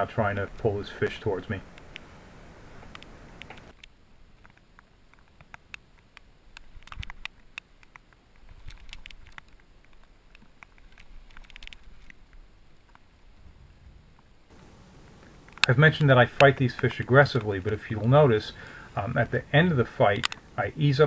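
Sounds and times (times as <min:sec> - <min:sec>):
light ticks and pattering: 0:00.0 - 0:13.4, 0:14.2 - 0:21.0
low hiss: 0:00.0 - 0:21.0.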